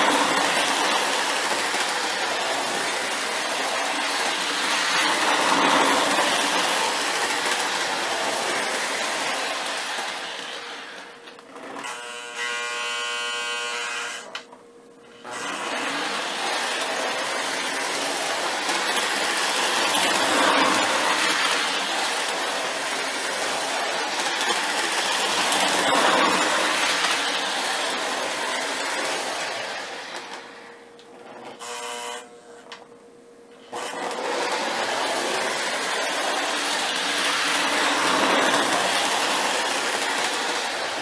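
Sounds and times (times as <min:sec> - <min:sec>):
model train motor whirring: 0:00.0 - 0:14.4, 0:15.2 - 0:32.8, 0:33.6 - 0:41.0.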